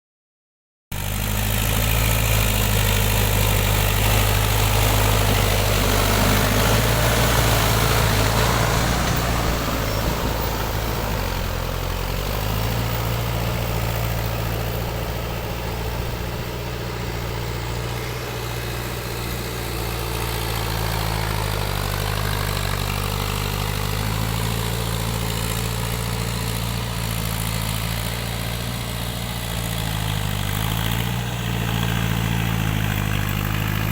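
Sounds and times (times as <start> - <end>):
tractor engine running: 0.9 - 33.9.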